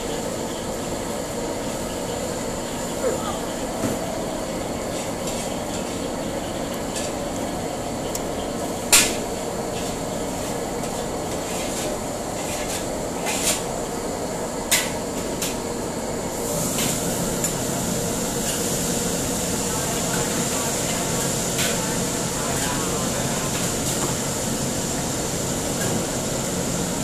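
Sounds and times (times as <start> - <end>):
kitchen extraction hood roaring: 0.0 - 27.0.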